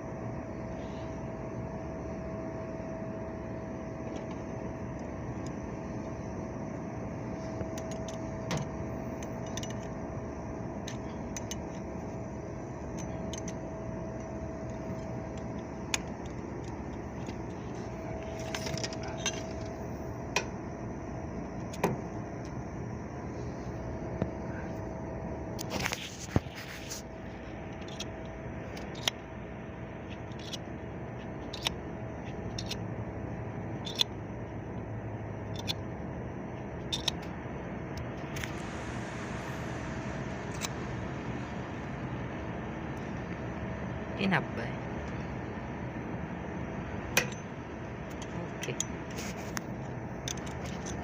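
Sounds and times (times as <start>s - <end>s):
mechanical hum: 0.0s - 51.0s.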